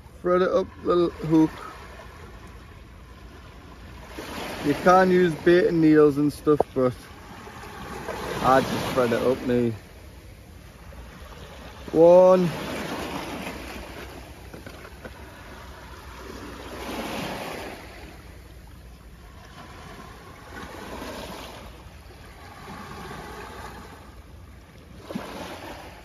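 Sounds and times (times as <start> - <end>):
surf on a rocky shore: 0.0 - 26.0.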